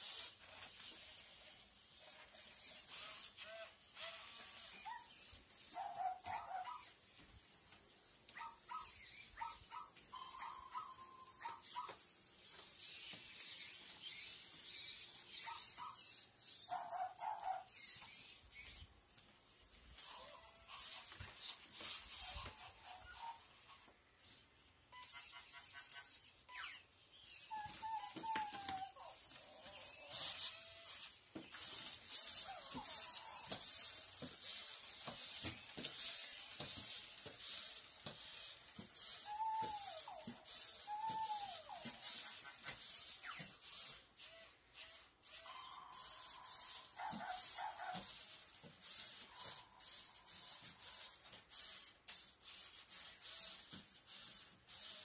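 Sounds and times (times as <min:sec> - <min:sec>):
toy robot dog electronic barks: 0:00.9 - 0:18.8, 0:20.0 - 0:52.2.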